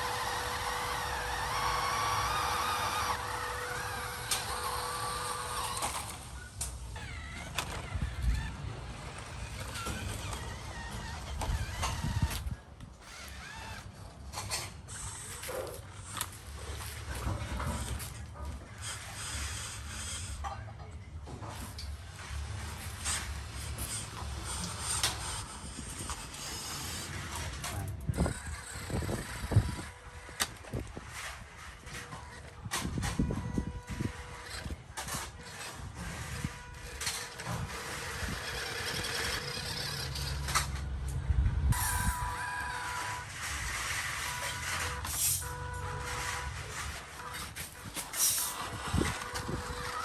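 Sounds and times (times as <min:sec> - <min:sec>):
electric motor whining: 0:00.0 - 0:14.1, 0:22.2 - 0:40.8, 0:41.7 - 0:50.0
creaks: 0:00.0 - 0:50.0.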